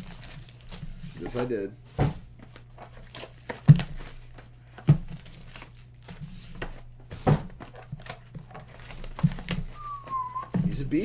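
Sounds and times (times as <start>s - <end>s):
packaging crinkling and tearing: 0.0s - 1.5s, 2.4s - 6.9s, 7.6s - 10.4s.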